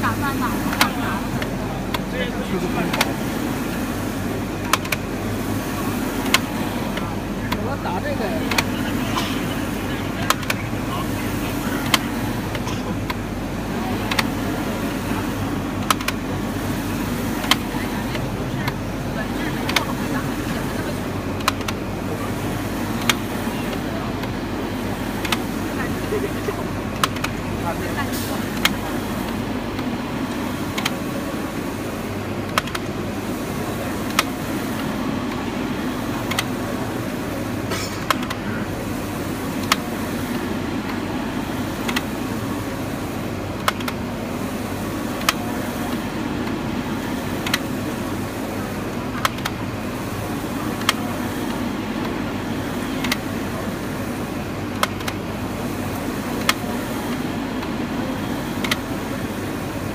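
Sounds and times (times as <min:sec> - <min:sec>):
printer mechanical hum: 0:00.0 - 0:59.9
printer sharp click: 0:00.3 - 0:59.9.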